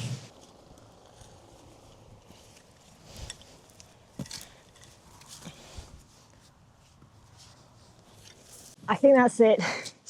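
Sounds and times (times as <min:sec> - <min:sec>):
garden fork digging into soil: 0:00.0 - 0:08.8.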